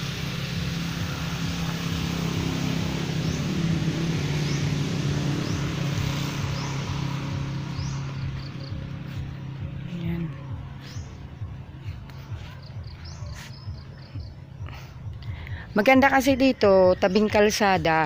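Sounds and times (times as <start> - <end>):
traffic passing by: 0.0 - 18.0.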